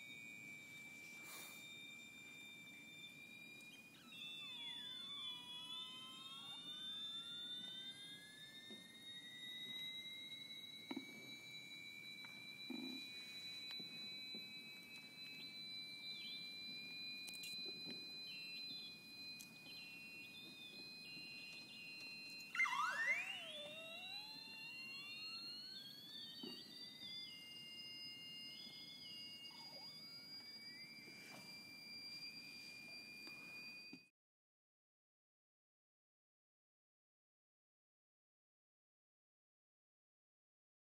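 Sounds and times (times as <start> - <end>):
high electronic tones: 0.0 - 33.9.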